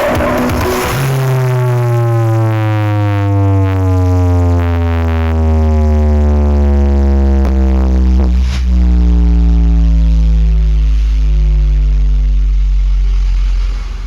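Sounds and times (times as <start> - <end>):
deep electronic bass tone: 0.0 - 14.0.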